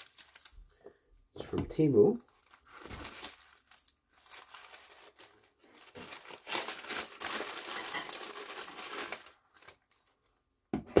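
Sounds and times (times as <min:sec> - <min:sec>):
packaging crinkling: 0:00.0 - 0:00.8, 0:01.8 - 0:10.4.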